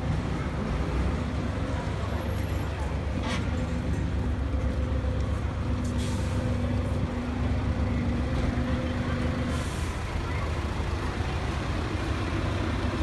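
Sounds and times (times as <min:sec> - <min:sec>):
diesel fire engines idling: 0:00.0 - 0:13.0.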